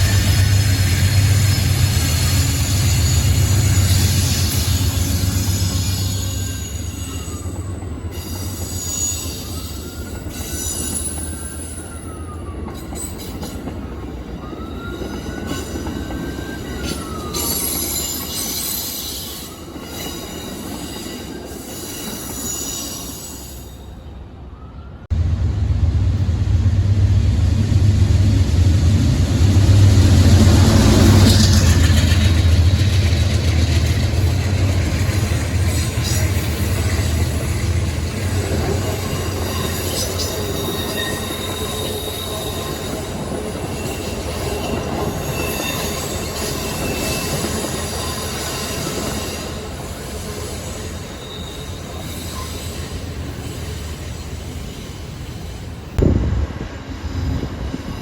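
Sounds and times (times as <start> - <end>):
train wheels squealing: 0.0 - 25.0, 29.5 - 58.0
train rumbling past: 0.0 - 58.0.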